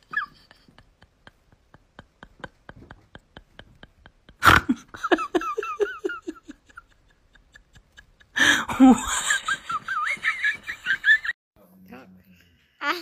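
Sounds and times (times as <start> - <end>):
person laughing: 0.0 - 11.4.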